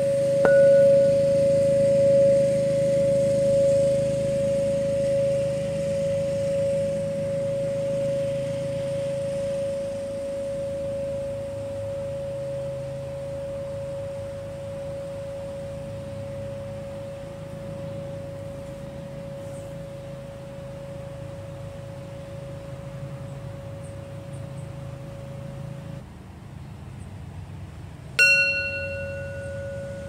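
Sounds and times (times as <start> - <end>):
metal tube chime ringing: 0.0 - 25.6, 28.2 - 30.0
low steady hum: 0.0 - 30.0.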